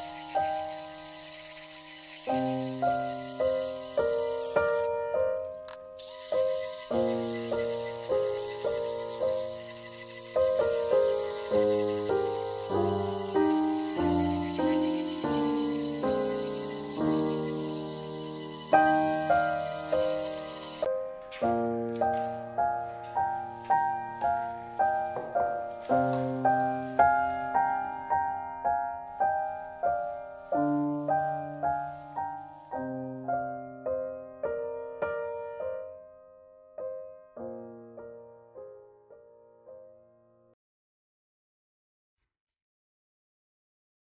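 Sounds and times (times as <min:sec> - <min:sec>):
solo piano music: 0:00.0 - 0:40.6.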